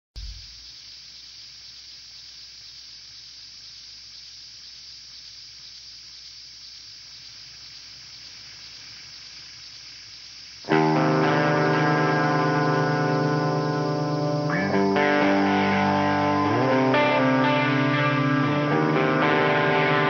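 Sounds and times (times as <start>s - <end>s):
static-like hiss: 0.2s - 20.0s.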